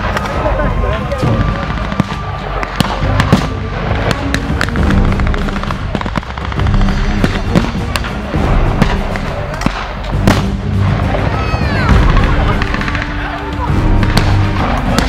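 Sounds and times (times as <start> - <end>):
background music: 0.0 - 15.0
gunfire and pyrotechnic bangs: 0.0 - 15.0.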